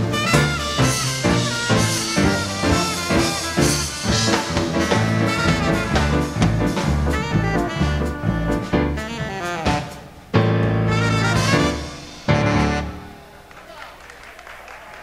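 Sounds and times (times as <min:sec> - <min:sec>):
latin dance band playing: 0:00.0 - 0:13.5.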